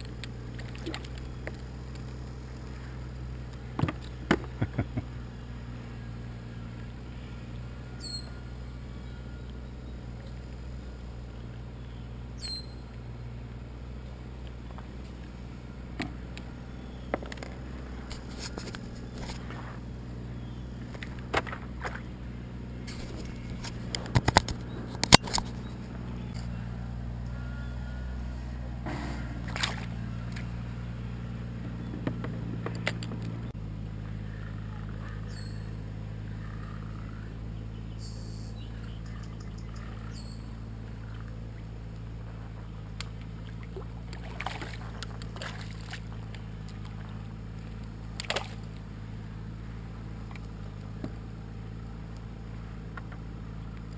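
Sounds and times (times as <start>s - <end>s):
low mechanical hum: 0.0s - 53.9s.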